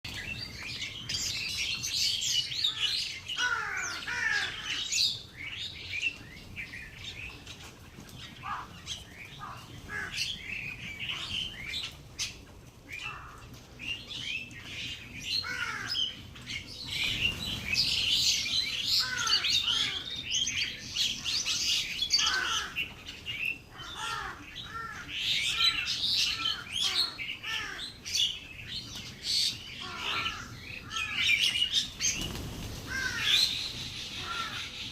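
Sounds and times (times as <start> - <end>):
flock of small birds chirping: 0.0 - 34.9.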